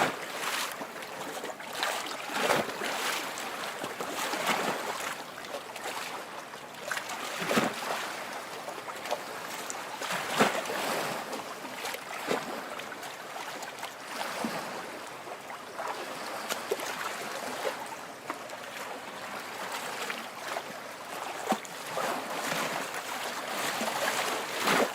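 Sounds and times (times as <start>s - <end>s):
water splashes: 0.0s - 15.1s, 15.7s - 24.9s
waves lapping at shore: 0.0s - 24.9s.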